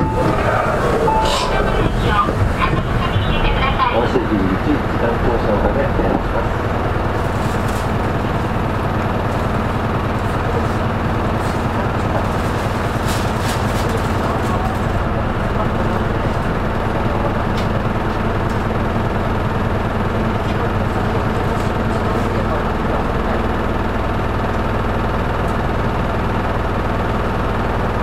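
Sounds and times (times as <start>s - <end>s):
bus diesel engine hum: 0.0s - 28.0s.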